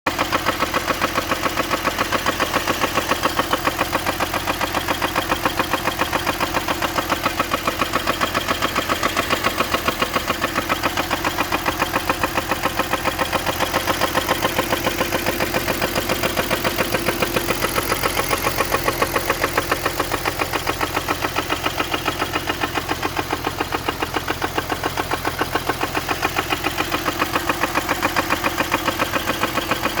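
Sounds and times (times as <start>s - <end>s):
car engine running with knocking: 0.1s - 30.0s.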